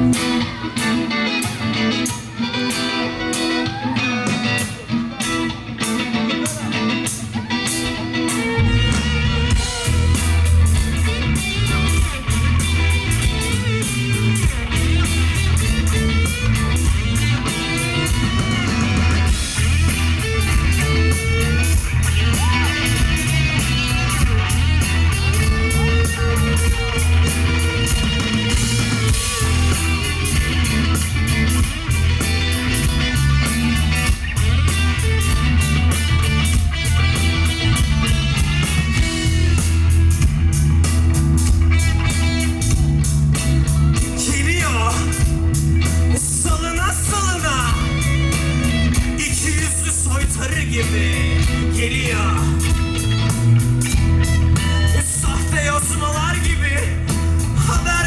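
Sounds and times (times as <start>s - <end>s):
bass guitar: 0.0s - 58.0s
drum kit: 0.0s - 58.0s
electric guitar: 0.0s - 58.0s
rock band playing live: 0.0s - 58.0s.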